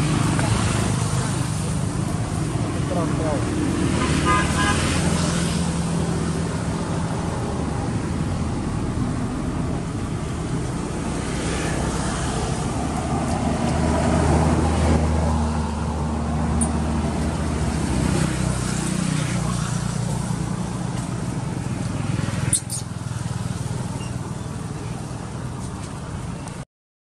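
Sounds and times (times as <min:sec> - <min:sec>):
vehicle engine humming: 0:00.0 - 0:26.6.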